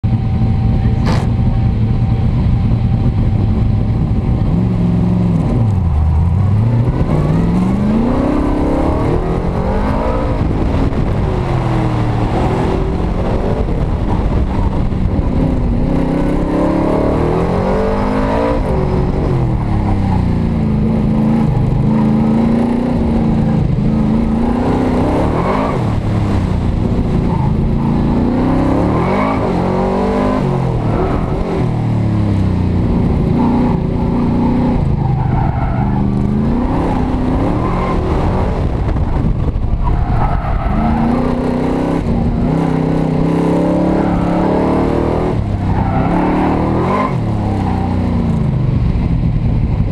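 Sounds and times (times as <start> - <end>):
car engine revving: 0.0 - 49.2.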